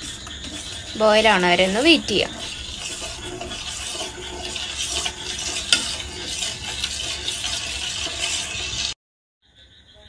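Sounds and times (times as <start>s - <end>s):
spoon scraping metal pot: 0.0s - 9.0s.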